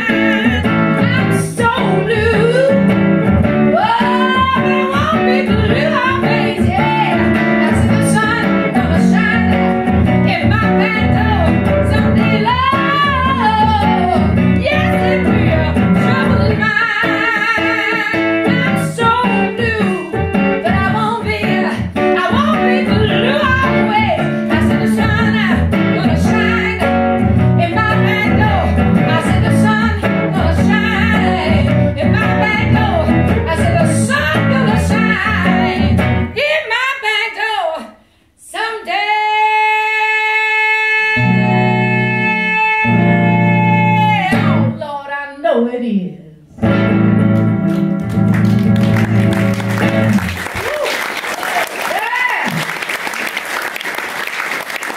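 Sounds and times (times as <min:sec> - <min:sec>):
guitar strummed and picked: 0:00.0 - 0:36.4, 0:41.1 - 0:44.8, 0:46.6 - 0:50.6
woman singing blues: 0:00.0 - 0:50.8.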